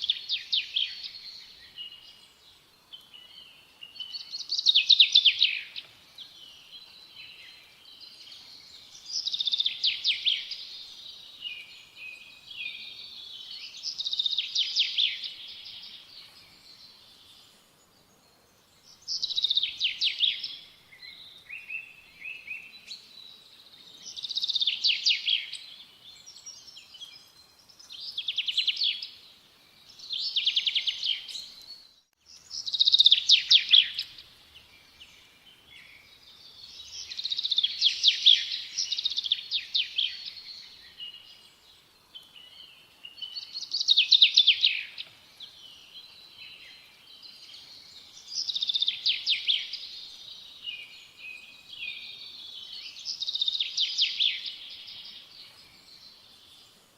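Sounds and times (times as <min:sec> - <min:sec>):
soft bird chirps: 0:00.0 - 0:56.9.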